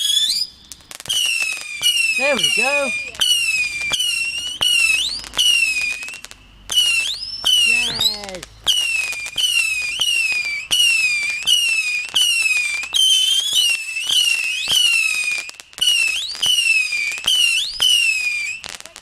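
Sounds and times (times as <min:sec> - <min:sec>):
whistling firework: 0:00.0 - 0:19.0.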